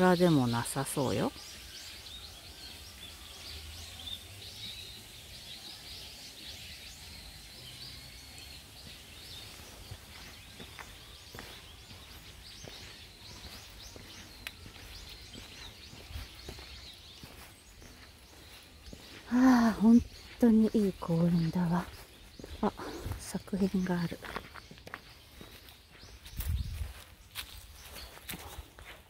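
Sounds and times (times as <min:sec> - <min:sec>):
low outdoor background: 0:00.0 - 0:29.0
small birds chirping: 0:00.0 - 0:29.0.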